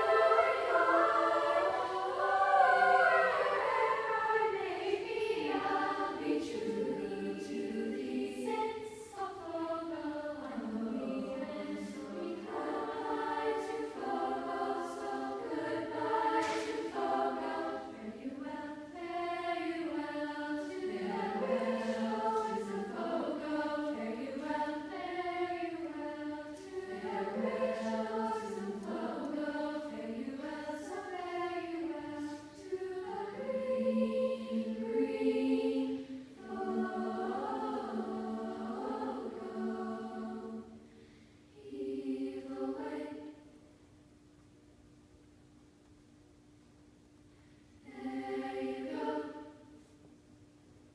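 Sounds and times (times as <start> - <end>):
girls choir singing in harmony: 0.0 - 43.9, 47.8 - 50.1.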